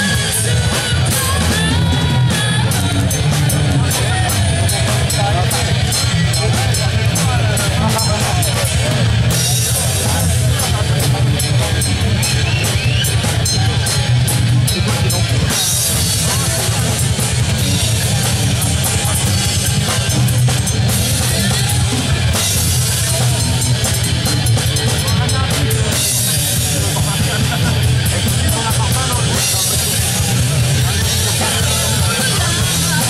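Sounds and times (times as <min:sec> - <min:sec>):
rock band playing loudly: 0:00.0 - 0:33.0.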